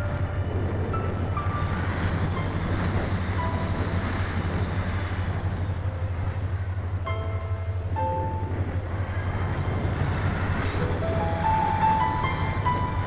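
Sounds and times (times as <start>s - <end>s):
airflow rumble and rush: 0.0s - 13.0s.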